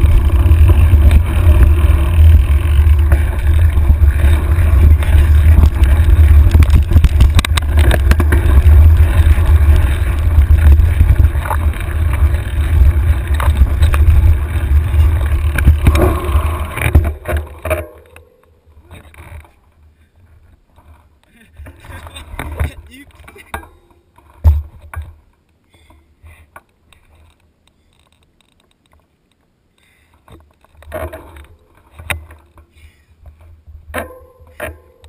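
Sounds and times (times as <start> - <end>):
bike knocks and rattles: 0.0 - 19.7, 20.7 - 29.1, 30.2 - 35.0.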